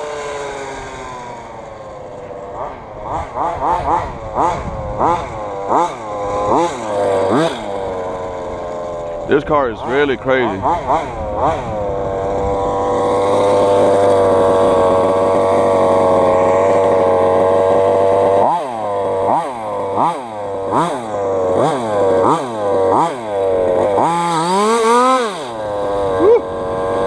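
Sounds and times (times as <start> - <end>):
small two-stroke engine revving: 0.0 - 27.0.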